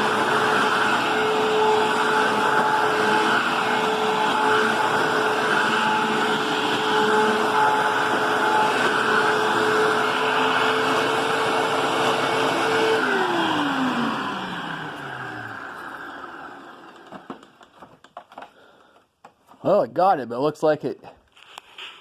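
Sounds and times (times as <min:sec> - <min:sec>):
vacuum cleaner motor whining: 0:00.0 - 0:18.5.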